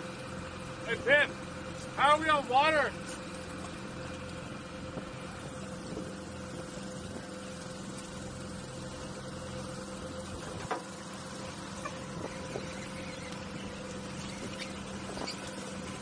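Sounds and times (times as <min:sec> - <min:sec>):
outboard motor idling: 0:00.0 - 0:16.0.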